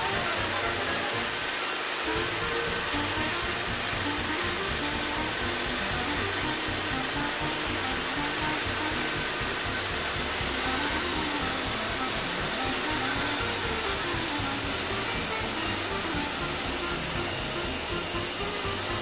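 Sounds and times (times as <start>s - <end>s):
background music with melody: 0.0s - 19.0s
band sawmill hissing: 0.0s - 19.0s.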